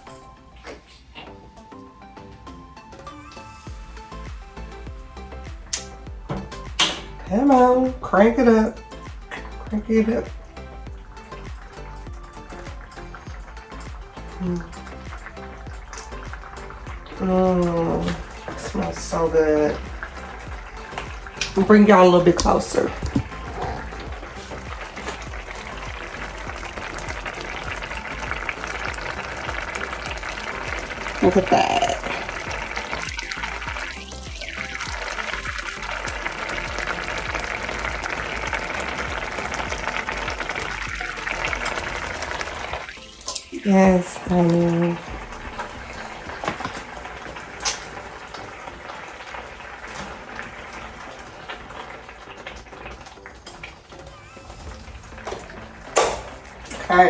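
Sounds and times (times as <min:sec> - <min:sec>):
broth boiling and bubbling: 0:00.0 - 0:57.0.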